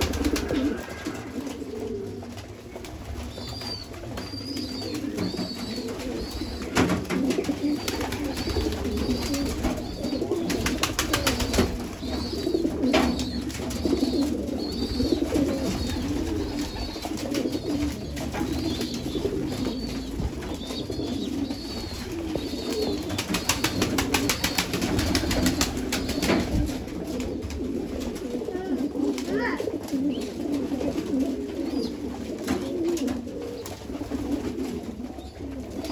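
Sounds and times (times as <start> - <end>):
pigeons cooing: 0.0 - 35.9
wings flapping: 0.0 - 35.9.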